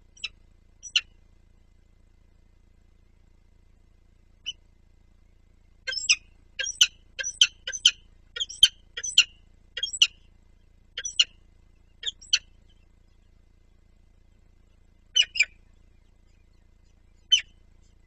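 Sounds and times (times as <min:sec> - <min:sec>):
bird chirping: 0:00.0 - 0:01.2, 0:04.4 - 0:18.0.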